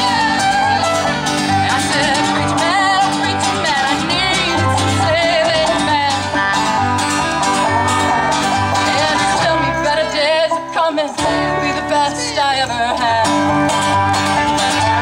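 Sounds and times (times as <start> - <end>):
acoustic guitar: 0.0 - 15.0
banjo: 0.0 - 15.0
upright bass plucking: 0.0 - 15.0
wavering melody line: 0.0 - 15.0.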